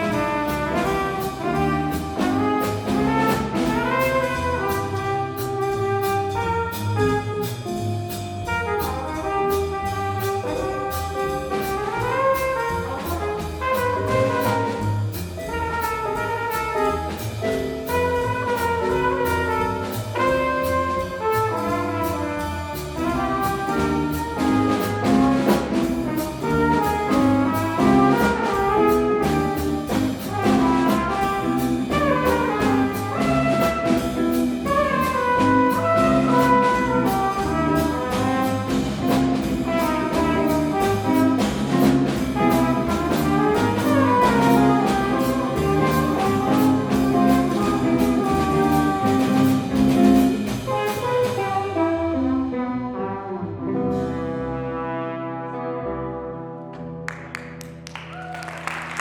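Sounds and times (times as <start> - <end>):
jazz melody lines: 0.0 - 57.1
bass: 0.0 - 59.0.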